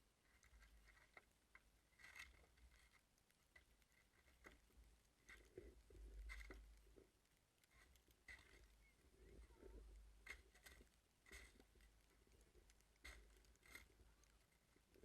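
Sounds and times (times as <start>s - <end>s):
faint low rumble: 0.0s - 15.0s
faint ticks and taps: 0.0s - 15.0s.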